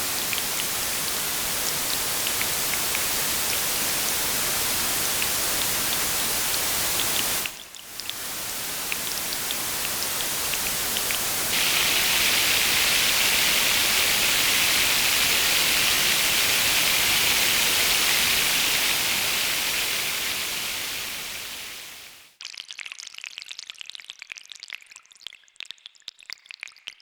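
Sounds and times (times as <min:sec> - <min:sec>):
synthesized rain hiss: 0:00.0 - 0:22.4.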